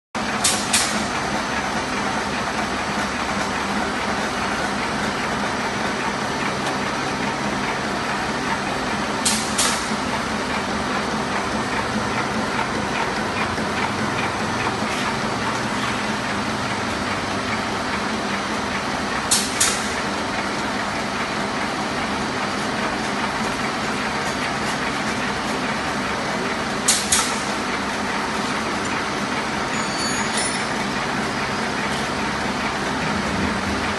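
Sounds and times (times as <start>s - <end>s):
machine running: 0.2s - 33.9s.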